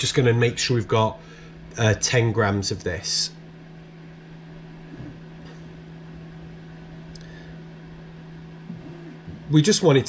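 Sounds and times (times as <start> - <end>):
low hum with faint hiss: 0.0 - 10.0.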